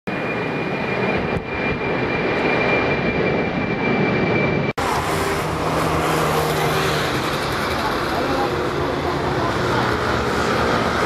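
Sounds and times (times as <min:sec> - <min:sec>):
jet engines whining: 0:00.1 - 0:11.0.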